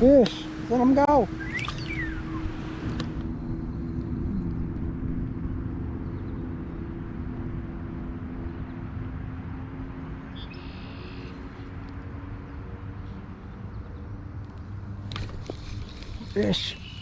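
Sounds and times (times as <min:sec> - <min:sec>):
small boat motor humming: 0:00.0 - 0:14.1, 0:14.7 - 0:17.0.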